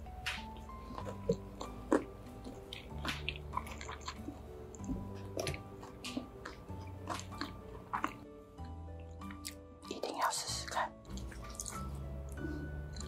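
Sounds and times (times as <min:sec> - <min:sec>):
background music: 0:00.0 - 0:13.0
chewing food: 0:00.2 - 0:13.0.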